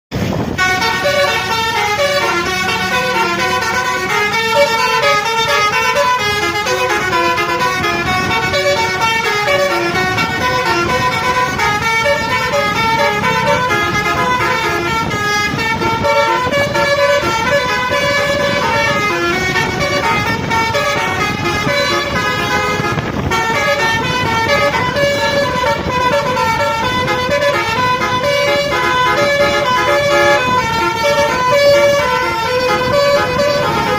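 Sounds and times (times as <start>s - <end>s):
musical bus horn melody: 0.2s - 33.9s.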